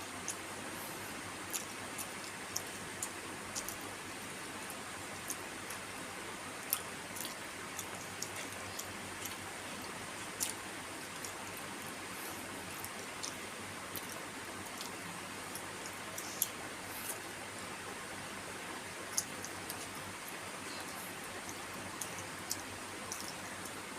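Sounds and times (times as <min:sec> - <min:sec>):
steady hiss: 0:00.0 - 0:23.9
person chewing with smacks: 0:00.1 - 0:03.9, 0:04.6 - 0:05.9, 0:06.6 - 0:17.2, 0:19.1 - 0:23.9.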